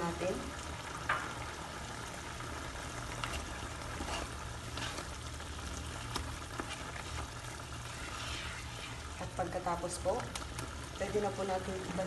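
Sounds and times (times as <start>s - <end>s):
sauce bubbling in a pan: 0.0s - 12.0s.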